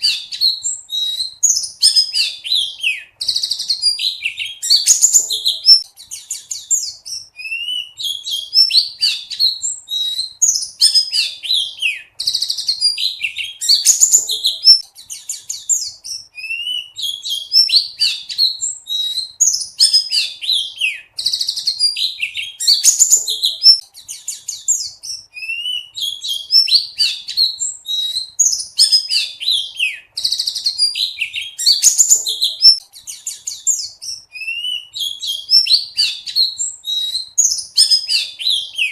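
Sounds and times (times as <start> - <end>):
bird twittering chirps and trills: 0.0 - 38.9.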